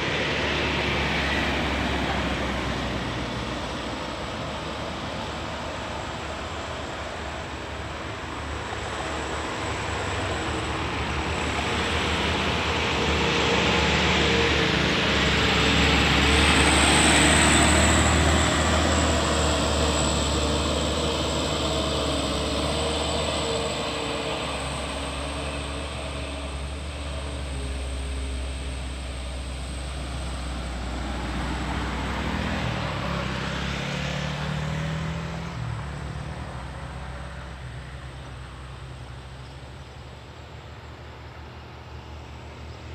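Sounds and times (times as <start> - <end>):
diesel truck engine labouring: 0.0 - 42.9.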